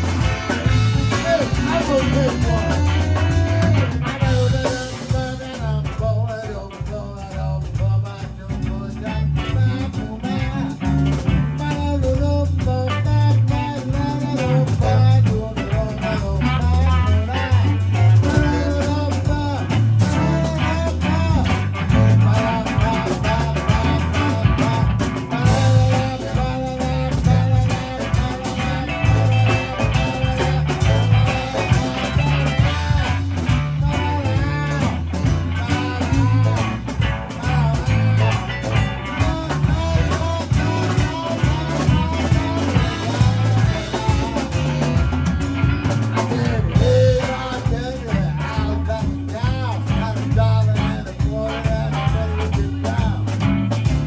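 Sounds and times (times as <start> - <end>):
electric guitar bending notes: 0.0 - 8.0, 8.7 - 54.0
bass: 0.0 - 54.0
drum kit steady beat: 0.0 - 54.0.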